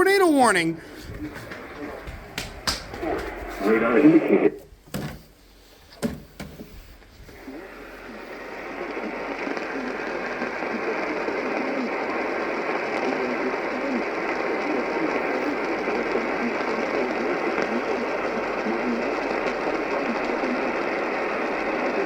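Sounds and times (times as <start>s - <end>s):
am radio static: 0.0s - 4.6s, 7.3s - 22.0s.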